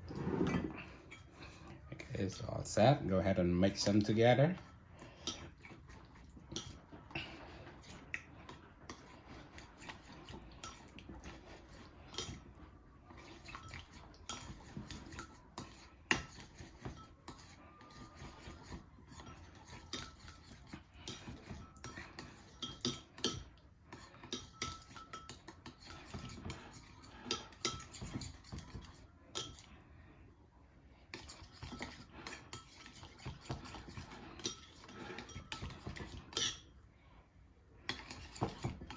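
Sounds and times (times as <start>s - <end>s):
utensil clinking and scraping bowl: 0.0s - 29.8s, 31.0s - 36.8s, 37.8s - 38.9s.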